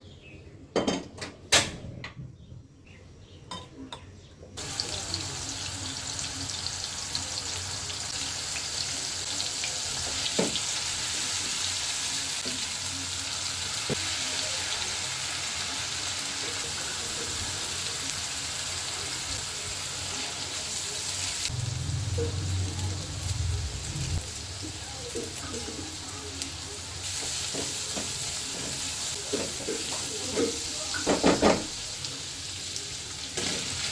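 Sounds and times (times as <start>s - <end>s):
food sizzling in hot oil: 4.6s - 33.9s.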